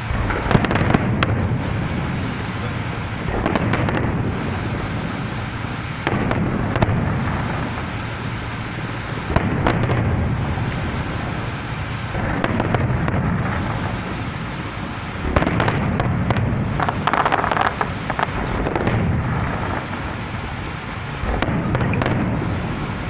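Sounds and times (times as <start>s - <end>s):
distant fireworks rumble and crackle: 0.0s - 23.0s
fireworks bangs: 0.0s - 23.0s.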